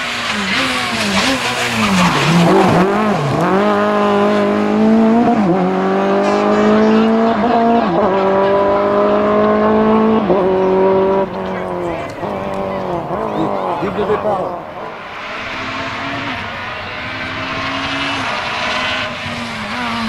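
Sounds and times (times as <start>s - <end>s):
rally car engine revving and accelerating: 0.0s - 20.0s.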